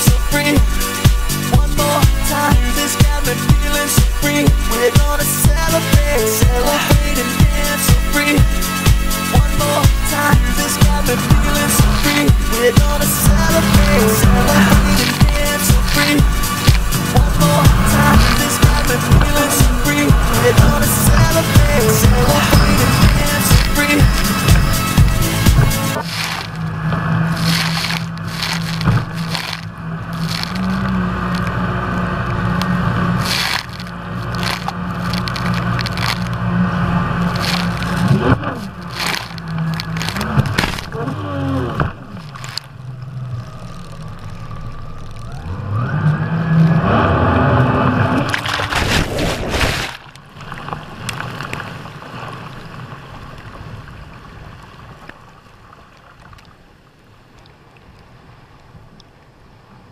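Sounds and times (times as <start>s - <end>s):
water splashing against hull: 0.0s - 45.3s, 47.9s - 59.5s
jet ski engine running: 0.0s - 49.0s.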